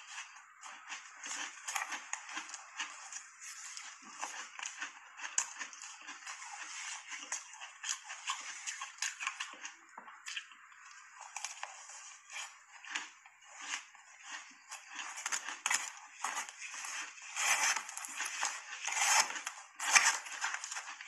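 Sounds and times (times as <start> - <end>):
chewing crunchy shaved ice: 0.0 - 21.0.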